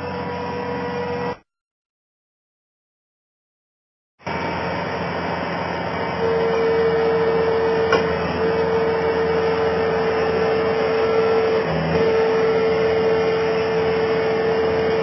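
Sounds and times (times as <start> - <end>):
skid steer engine running: 0.0 - 1.4, 4.2 - 15.0.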